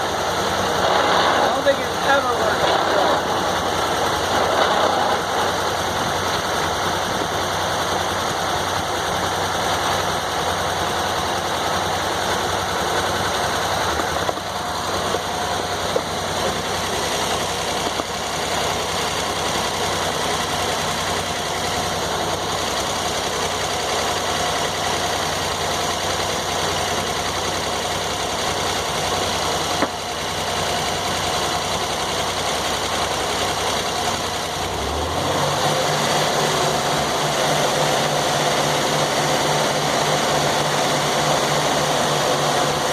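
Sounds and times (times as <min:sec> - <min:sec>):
sawmill engine running: 0:00.0 - 0:42.9.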